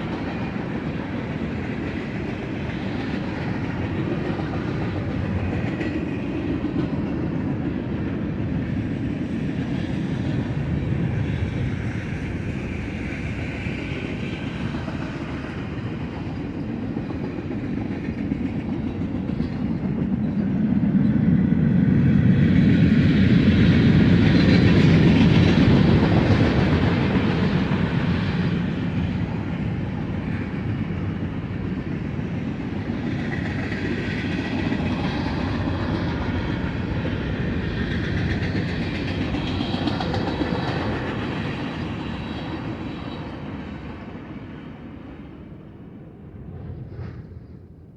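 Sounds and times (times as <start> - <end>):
freight train passing: 0.0 - 47.9.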